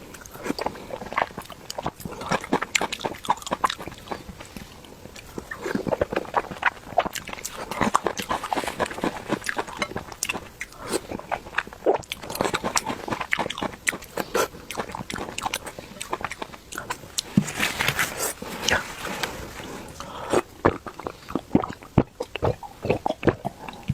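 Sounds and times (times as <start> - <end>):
wet chewing and mouth smacking: 0.1 - 23.9.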